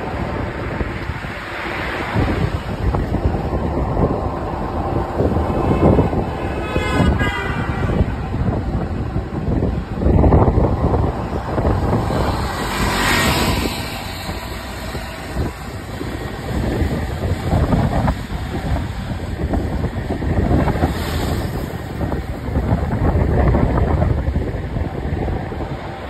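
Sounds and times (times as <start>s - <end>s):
street traffic rumble: 0.0s - 26.0s
wind buffeting microphone: 0.0s - 26.0s.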